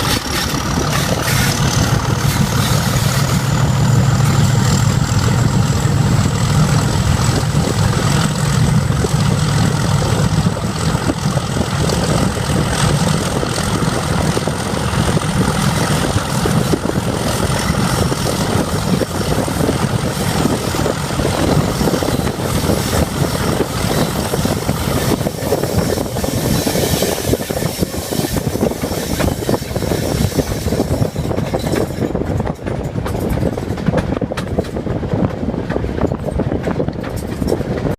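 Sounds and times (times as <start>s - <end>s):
high engine whine: 0.0s - 37.7s
diesel locomotive engine running hard: 0.0s - 37.9s.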